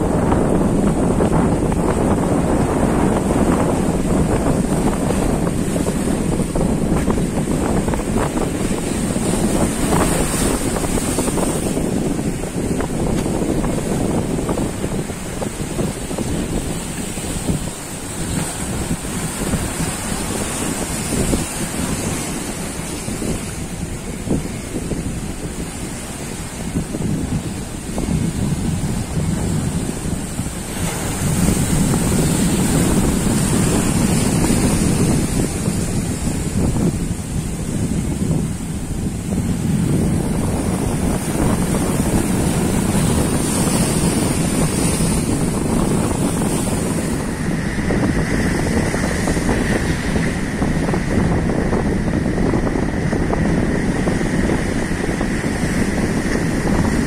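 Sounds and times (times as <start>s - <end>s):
surf washing against rocks: 0.0s - 57.0s
wind buffeting microphone: 0.0s - 57.0s.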